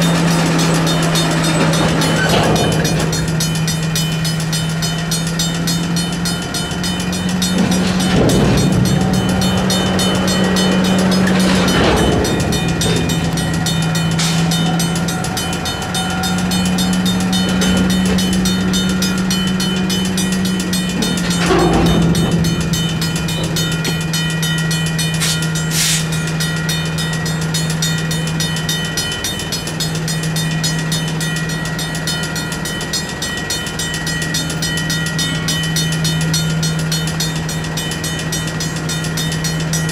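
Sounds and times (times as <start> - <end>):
crossing warning bells ringing: 0.0 - 39.9
train running: 0.0 - 39.9.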